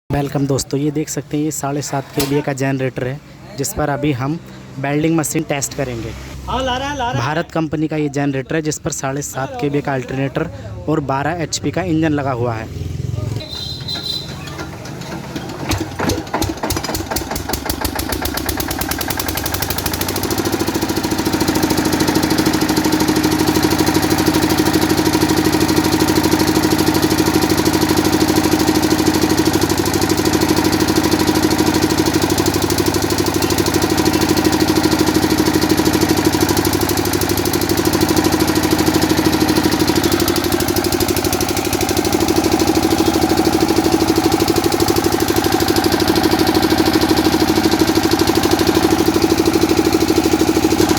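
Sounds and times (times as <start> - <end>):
generator engine running: 0.1 - 50.9.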